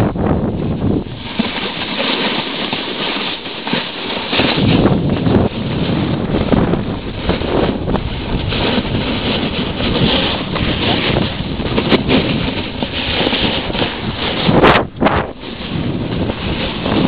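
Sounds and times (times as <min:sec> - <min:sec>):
wind buffeting microphone: 0:00.0 - 0:17.0
skis sliding over snow: 0:00.5 - 0:17.0.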